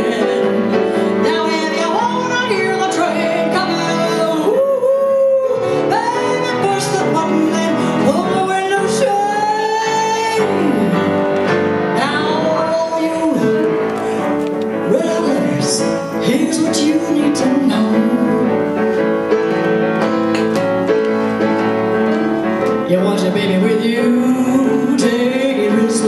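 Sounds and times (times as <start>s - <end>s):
woman singing: 0.0s - 14.0s, 14.6s - 19.0s, 22.7s - 26.0s
piano accompaniment: 0.0s - 26.0s.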